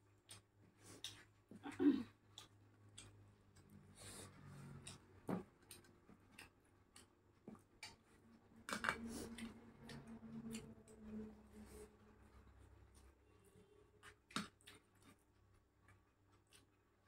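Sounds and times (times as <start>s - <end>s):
person chewing: 0.1s - 11.3s, 12.6s - 17.0s.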